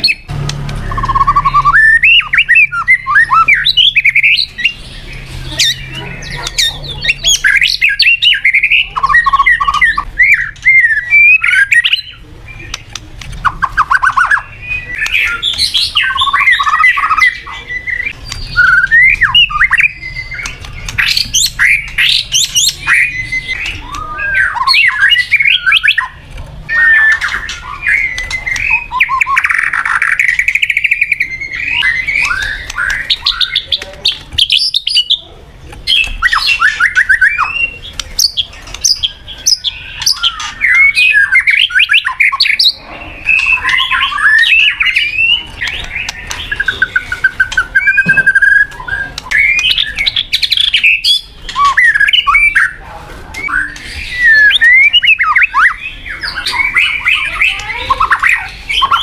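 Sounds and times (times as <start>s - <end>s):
bird singing whistles and trills: 0.0s - 12.8s, 13.4s - 35.3s, 35.9s - 59.0s.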